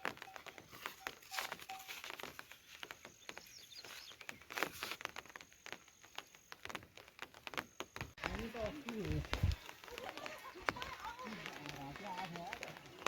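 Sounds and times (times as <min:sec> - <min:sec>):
faint irregular taps and clicks: 0:00.0 - 0:13.0.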